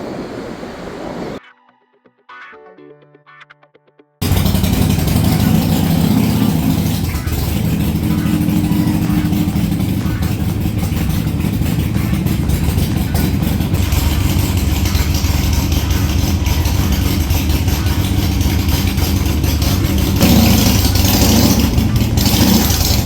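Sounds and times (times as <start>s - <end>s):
loud rushing noise: 0.0s - 1.4s, 4.2s - 23.0s
motorcycle engine running: 4.2s - 23.0s.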